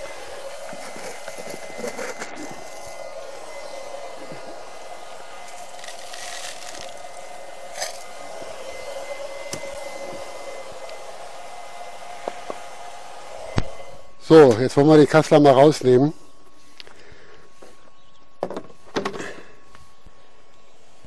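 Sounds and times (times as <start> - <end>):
blower fan whirring: 0.0 - 21.0.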